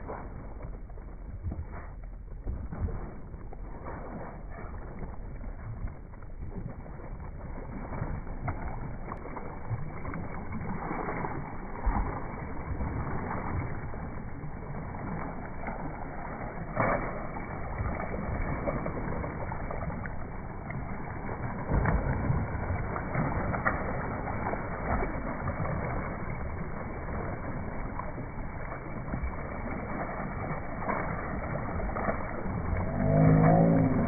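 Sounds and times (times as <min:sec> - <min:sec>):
water splashing in a pool: 0:00.0 - 0:34.0.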